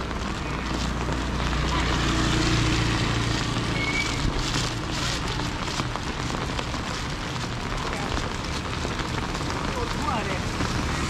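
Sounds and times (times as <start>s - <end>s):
rain pattering on surfaces: 0.0s - 11.0s.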